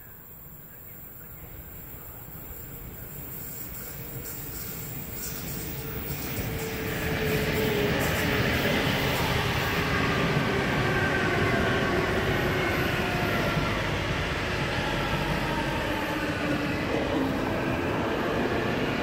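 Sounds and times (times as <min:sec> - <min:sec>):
train wheels on rail: 0:01.4 - 0:19.0.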